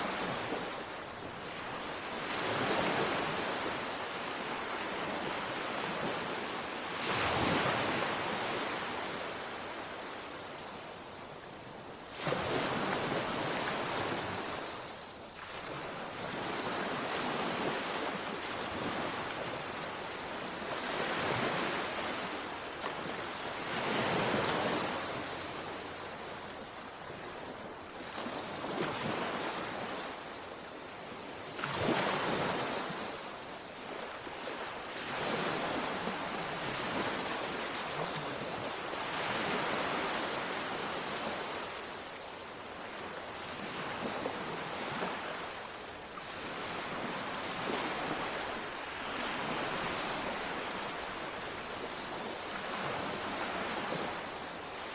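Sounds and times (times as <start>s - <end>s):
sea waves washing onto shore: 0.0s - 54.9s.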